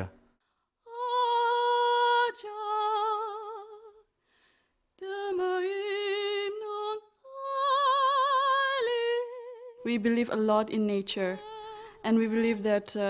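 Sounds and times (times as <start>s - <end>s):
woman singing: 0.8s - 4.1s, 5.0s - 13.0s.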